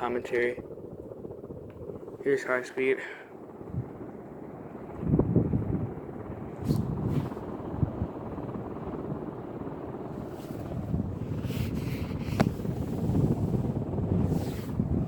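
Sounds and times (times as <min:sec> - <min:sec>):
ceiling fan air rush: 0:00.0 - 0:15.0.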